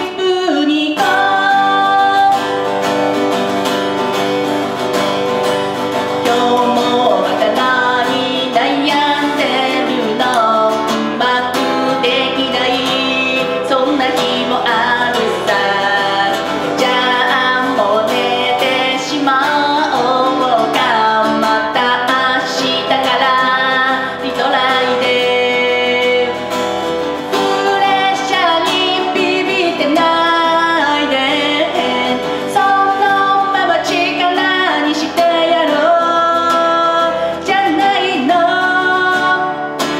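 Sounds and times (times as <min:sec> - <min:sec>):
woman singing into microphone: 0:00.0 - 0:04.0, 0:05.2 - 0:39.9
acoustic guitar strumming: 0:00.0 - 0:39.9.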